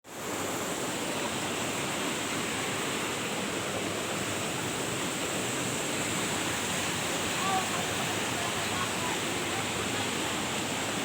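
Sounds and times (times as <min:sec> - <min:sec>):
waterfall roaring: 0:00.1 - 0:11.0.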